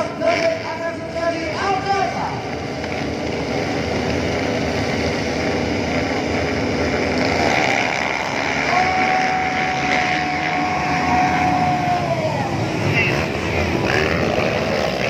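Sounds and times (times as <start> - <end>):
dirt bikes revving: 0.0 - 15.0.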